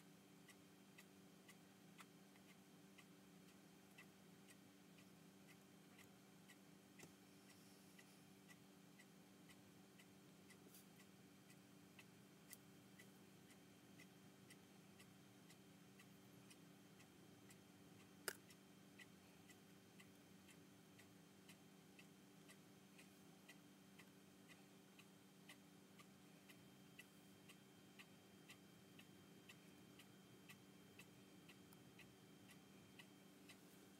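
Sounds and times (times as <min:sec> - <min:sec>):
faint regular ticking: 0:00.0 - 0:33.9
low steady hum: 0:00.0 - 0:33.9.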